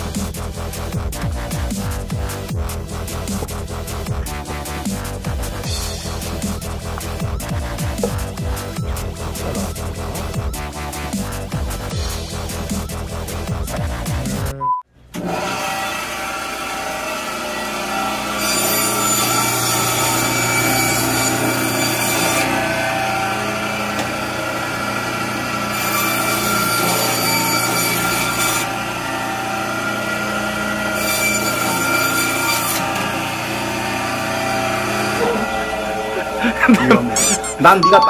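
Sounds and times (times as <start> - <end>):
band saw humming: 0.0 - 14.6, 15.2 - 37.8.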